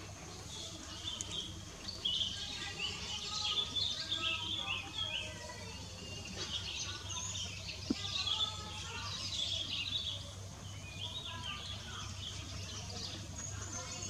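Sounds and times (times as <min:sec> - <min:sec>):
birds chirping: 0:00.0 - 0:14.0
outdoor background hum: 0:00.0 - 0:14.0.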